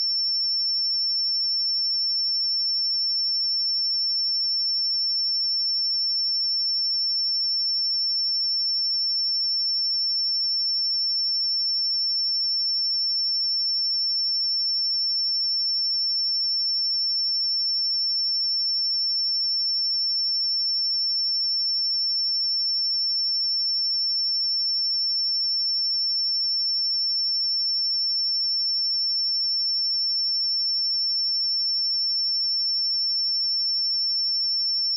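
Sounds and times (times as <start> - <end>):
high-pitched sine-wave test tone: 0.0 - 34.9.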